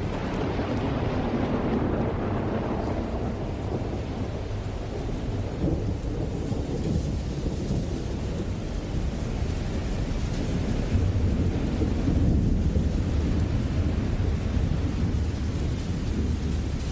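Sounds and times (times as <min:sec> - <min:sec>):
distant thunder rumbling: 0:00.0 - 0:16.9
steady rain: 0:00.0 - 0:16.9.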